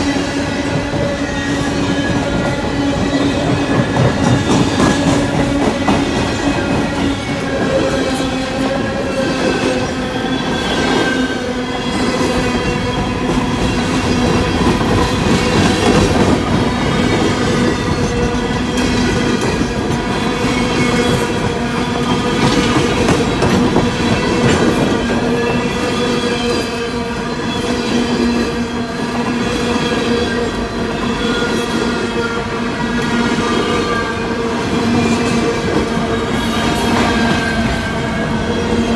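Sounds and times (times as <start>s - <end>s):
train wheels rumbling and clacking: 0.0s - 38.9s
wheels squealing on rail: 0.0s - 38.9s.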